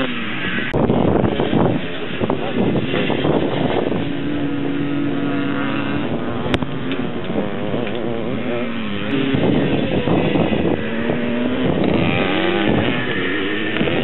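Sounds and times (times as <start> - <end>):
distant motorcycle engines revving: 0.0 - 14.0
motocross bike passing: 0.0 - 14.0.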